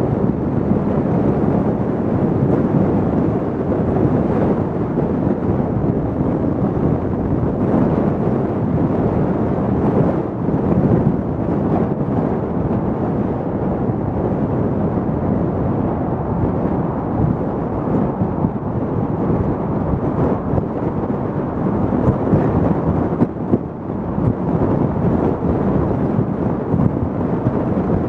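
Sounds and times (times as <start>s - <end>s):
car road and wind rumble: 0.0s - 28.0s.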